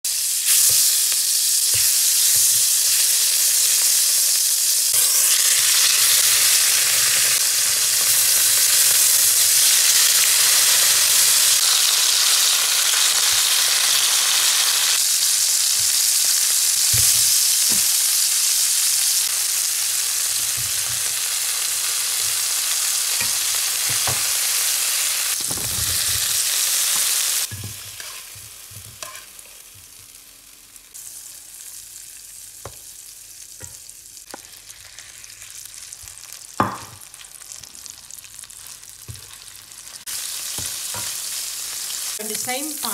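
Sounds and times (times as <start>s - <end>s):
food sizzling in frying pan: 0.1s - 42.9s.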